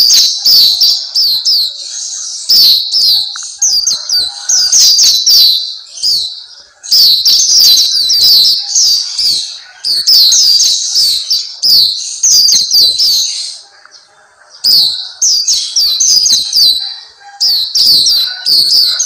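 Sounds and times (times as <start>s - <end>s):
bird twittering song: 0.0s - 19.0s.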